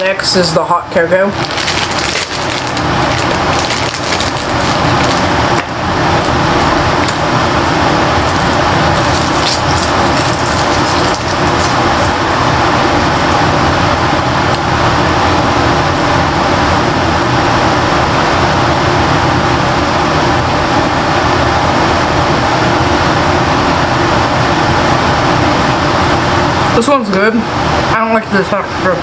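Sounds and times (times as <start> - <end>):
loud steady rushing noise: 0.0 - 29.0.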